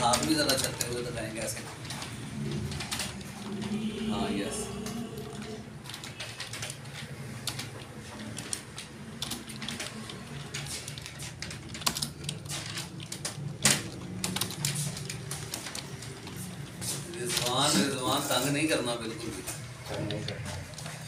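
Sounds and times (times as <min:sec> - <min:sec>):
computer keyboard typing: 0:00.0 - 0:21.0.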